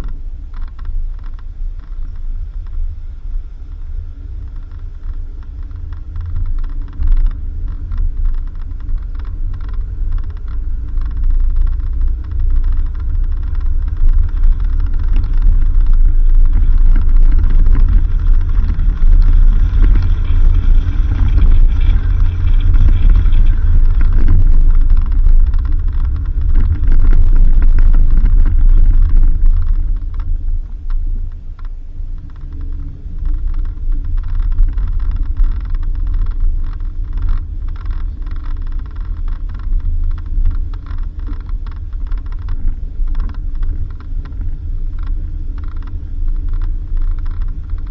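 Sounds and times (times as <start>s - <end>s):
small knocks and rattles: 0.0s - 47.9s
vehicle rumbling on dirt road: 0.0s - 47.9s.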